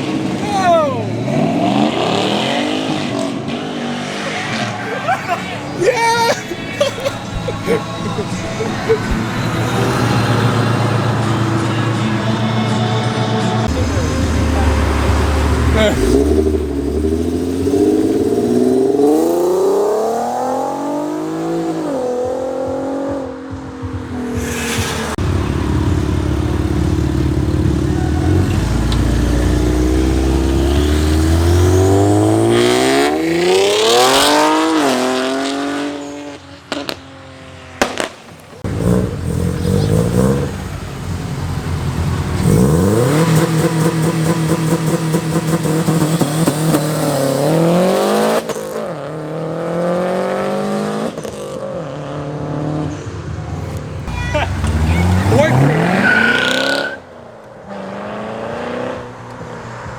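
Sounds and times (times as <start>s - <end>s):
cars accelerating hard: 0.0s - 59.9s.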